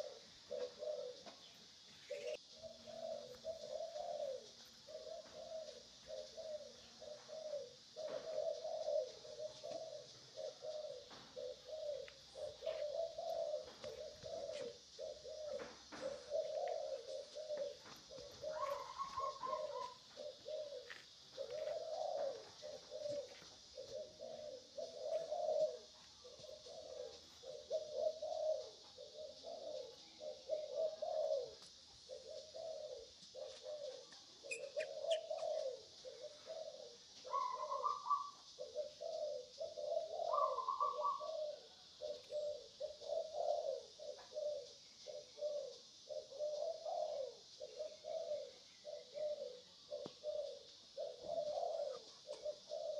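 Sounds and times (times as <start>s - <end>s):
doves cooing: 0.0s - 52.9s
steady high hiss: 0.0s - 52.9s.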